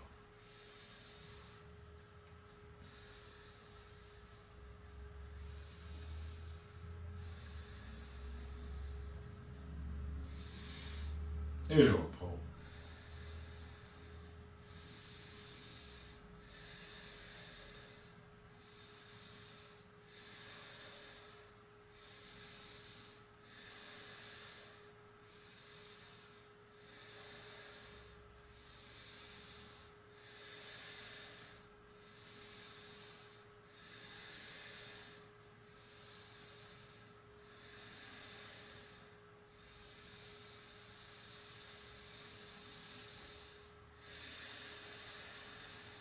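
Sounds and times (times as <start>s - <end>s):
person breathing through nose: 0.0s - 1.8s, 2.8s - 11.6s, 12.5s - 46.0s
faint pure tone hum: 0.0s - 46.0s.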